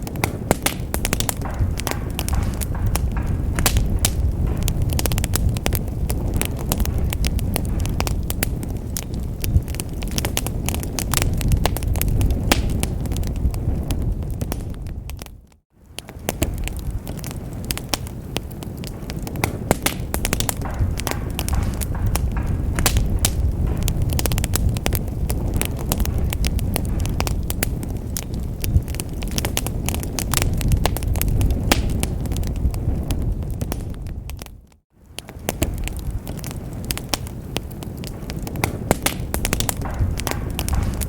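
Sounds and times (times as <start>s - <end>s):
logs crackling and popping: 0.0s - 41.0s
low rumble of flames: 0.0s - 41.0s.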